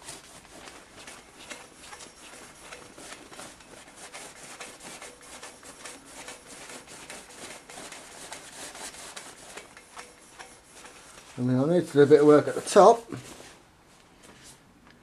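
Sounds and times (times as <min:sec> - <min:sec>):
scratchy rubbing on metal: 0:00.0 - 0:13.6.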